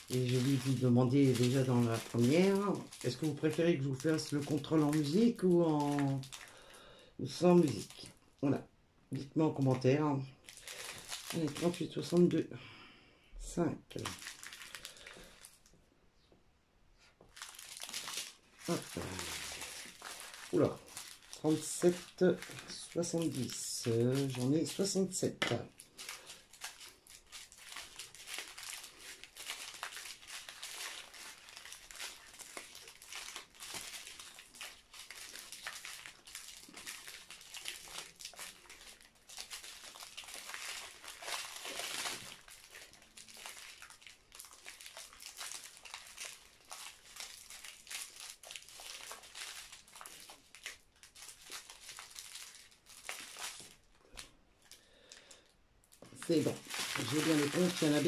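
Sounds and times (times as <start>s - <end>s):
plastic sachets crinkling: 0.0s - 12.4s, 13.4s - 15.8s, 17.2s - 58.0s.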